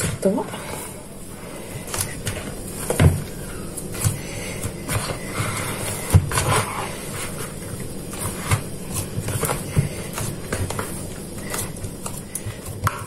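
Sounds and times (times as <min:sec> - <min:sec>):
dough knocking and scraping bowl: 0:01.8 - 0:13.0.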